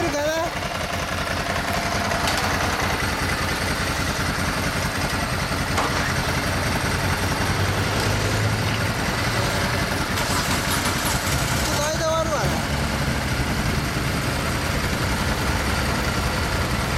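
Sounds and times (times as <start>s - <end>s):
motorcycle engines idling: 0.0s - 16.9s.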